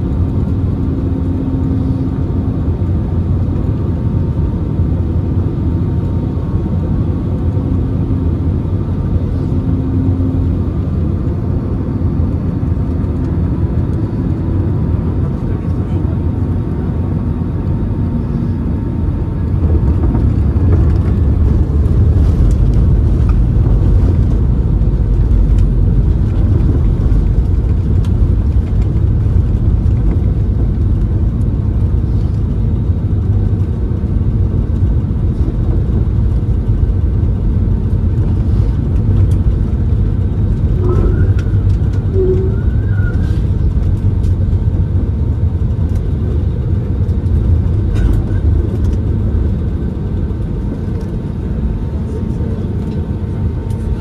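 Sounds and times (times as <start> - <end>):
jet engines and wheels rumbling: 0.0 - 54.0.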